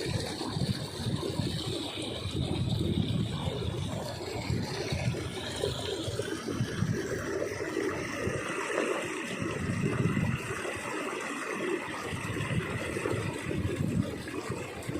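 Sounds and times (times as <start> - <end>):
water rushing in a ditch: 0.0 - 14.9.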